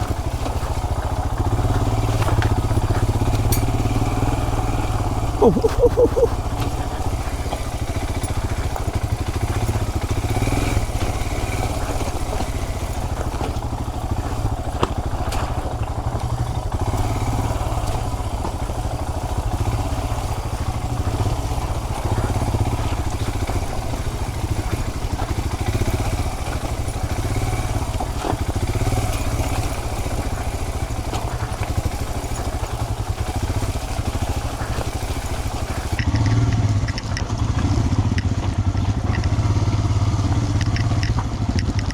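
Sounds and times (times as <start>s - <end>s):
motorcycle engine droning: 0.0s - 41.9s.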